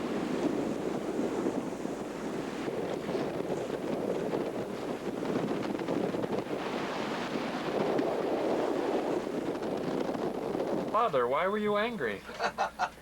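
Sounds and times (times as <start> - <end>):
wind buffeting microphone: 0.0 - 12.0
waves rushing along hull: 0.0 - 12.2.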